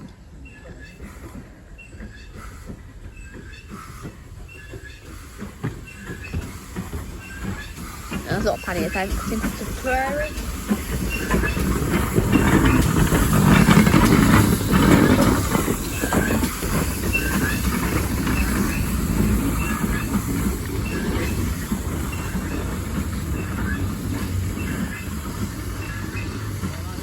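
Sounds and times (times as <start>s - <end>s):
steam engine passing: 0.0s - 27.0s
wheels clacking over rail joints: 0.0s - 27.0s
high wheel squeaks: 0.4s - 27.0s.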